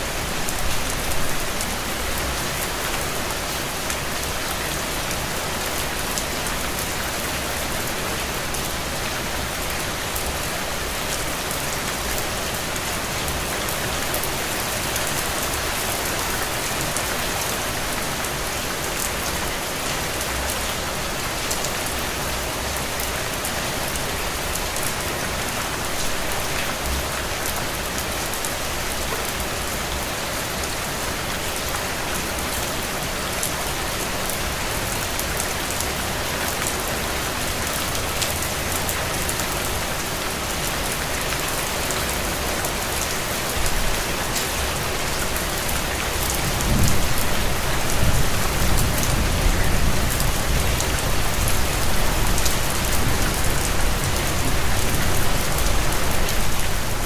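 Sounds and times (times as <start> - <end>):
rain falling on a window: 0.0 - 57.0.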